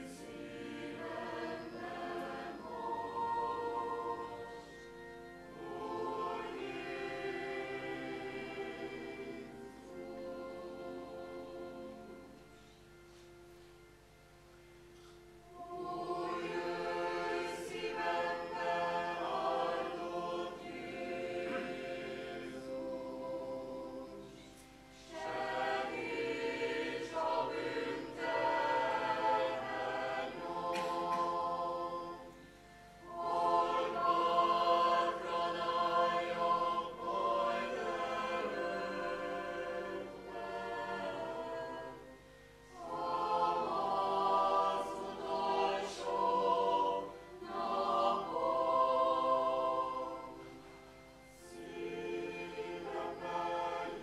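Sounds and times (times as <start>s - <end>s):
church choir singing a hymn: 0.0s - 13.9s, 14.6s - 54.0s.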